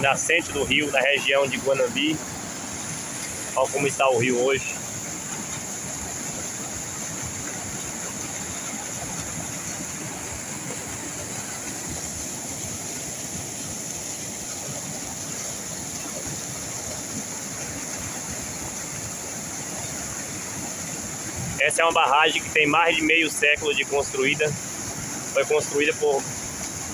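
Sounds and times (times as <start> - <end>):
water rushing over dam spillway: 0.0 - 26.9.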